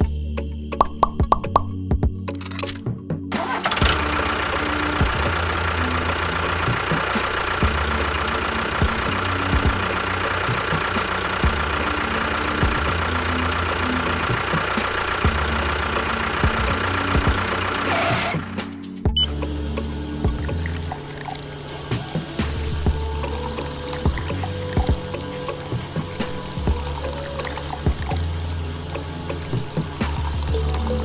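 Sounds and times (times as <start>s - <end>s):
engine idling: 2.2s - 31.0s.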